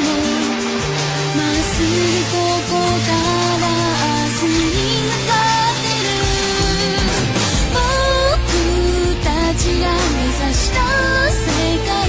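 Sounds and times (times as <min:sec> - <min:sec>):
instrumental backing with bass: 0:00.0 - 0:12.0
person singing pop song: 0:00.0 - 0:12.0.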